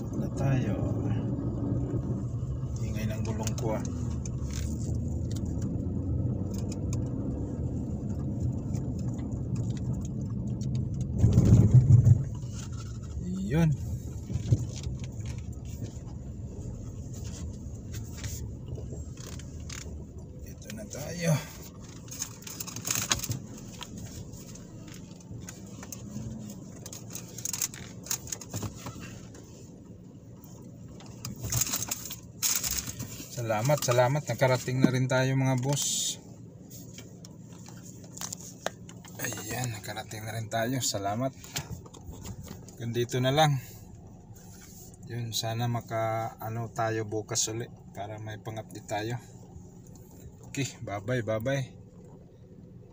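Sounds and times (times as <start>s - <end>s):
car engine and tyre rumble: 0.0s - 52.9s
light clicks and rattles: 2.6s - 52.3s.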